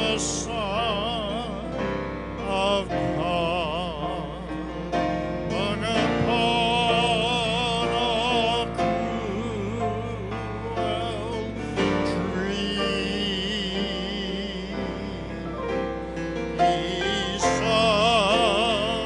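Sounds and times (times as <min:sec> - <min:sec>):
grand piano: 0:00.0 - 0:19.0
man singing: 0:00.0 - 0:19.0.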